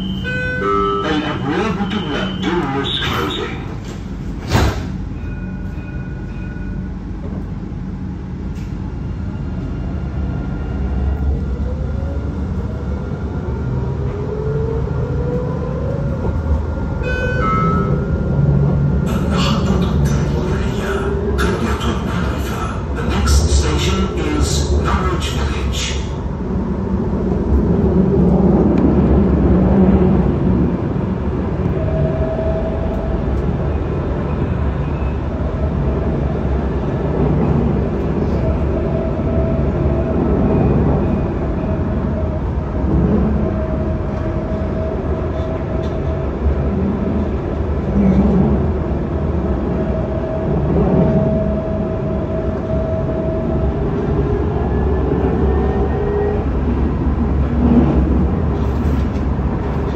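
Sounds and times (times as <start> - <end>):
tram wheels rumbling on rails: 0.0 - 59.9.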